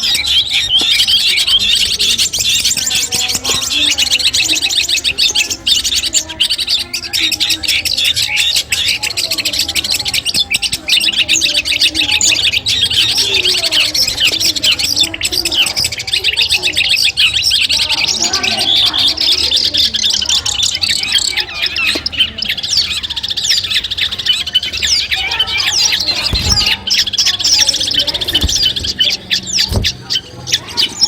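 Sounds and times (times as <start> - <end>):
shrike singing rapid trills: 0.0 - 31.0.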